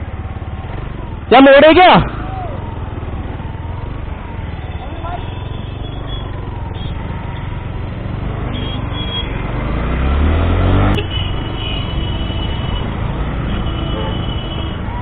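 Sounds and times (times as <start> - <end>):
motorcycle engine revving: 2.0 - 14.9.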